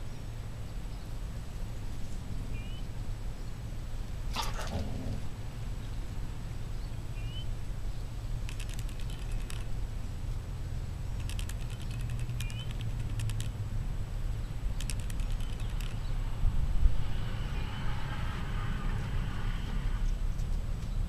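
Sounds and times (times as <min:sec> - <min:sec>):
steady low rumble: 0:00.0 - 0:20.4.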